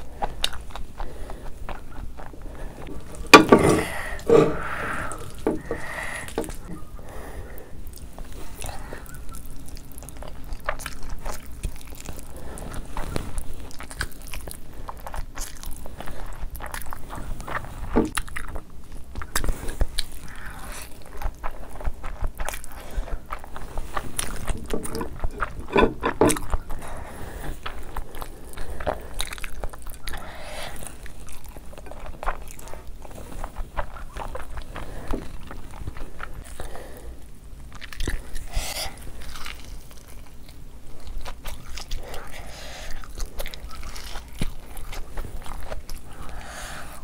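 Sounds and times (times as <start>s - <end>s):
chewing noodles: 0.0s - 47.0s.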